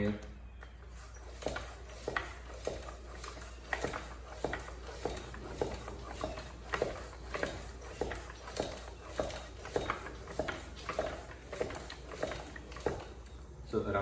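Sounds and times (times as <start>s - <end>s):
hand pump strokes clicking: 0.0s - 13.9s.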